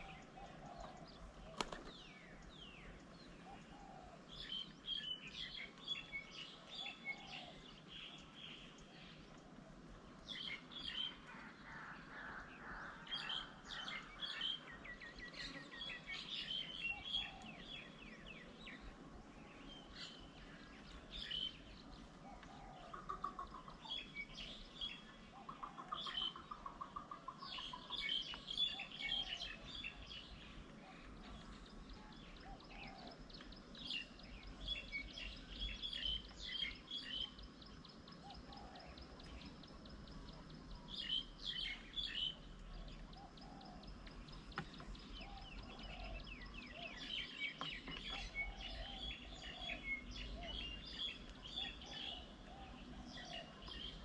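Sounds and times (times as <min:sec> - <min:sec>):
small birds chirping: 0:00.0 - 0:11.6, 0:12.4 - 0:54.0.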